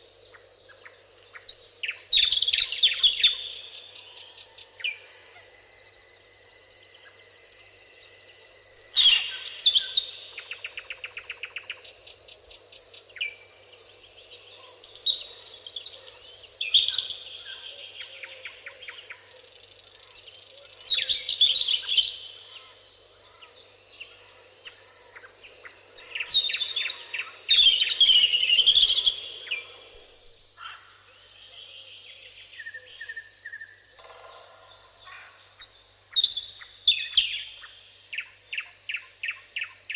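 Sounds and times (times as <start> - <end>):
wild birds singing and trilling: 0.0 - 39.9.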